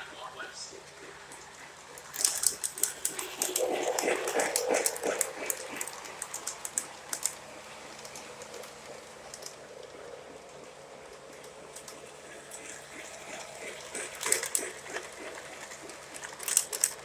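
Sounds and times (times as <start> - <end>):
model train running: 0.0 - 17.0
wheels clicking over track joints: 0.0 - 17.0.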